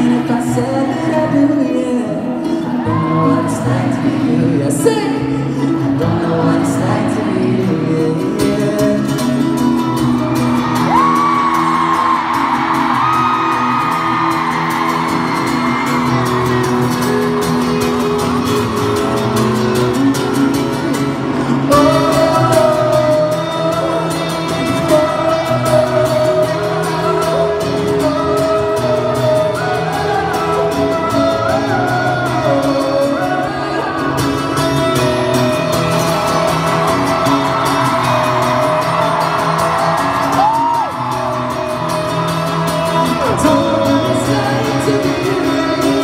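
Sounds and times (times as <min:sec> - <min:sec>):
live pop ballad singing: 0:00.0 - 0:46.0.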